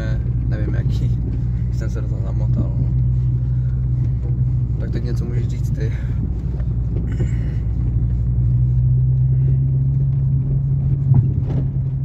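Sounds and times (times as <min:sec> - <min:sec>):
car engine drone inside cabin: 0:00.0 - 0:12.0.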